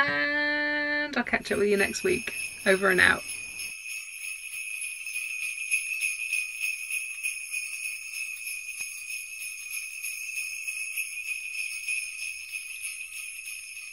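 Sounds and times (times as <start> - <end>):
sleigh bells jingling: 1.4 - 13.9.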